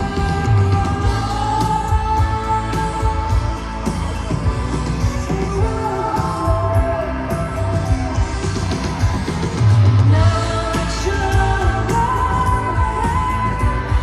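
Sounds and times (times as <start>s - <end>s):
person singing: 0.0s - 14.0s
pop band playing live: 0.0s - 14.0s.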